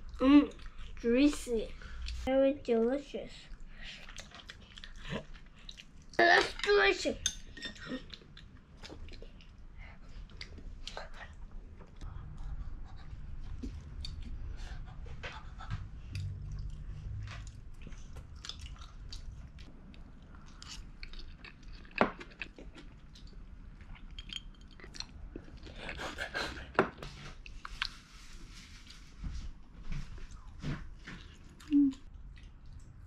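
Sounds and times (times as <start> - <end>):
chewing dumplings: 3.5 - 6.6, 7.8 - 29.1, 29.9 - 33.0.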